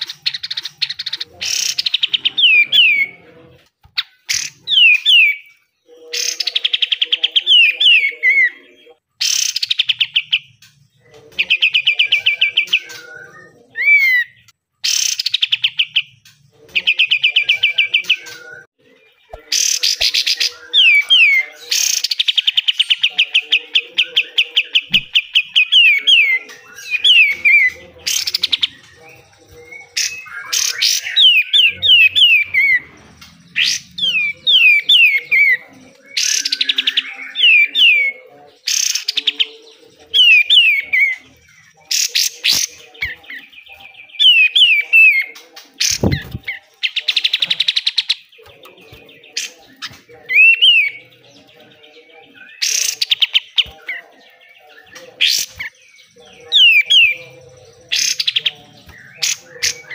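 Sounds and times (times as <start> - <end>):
bird singing trills: 0.0 - 59.9.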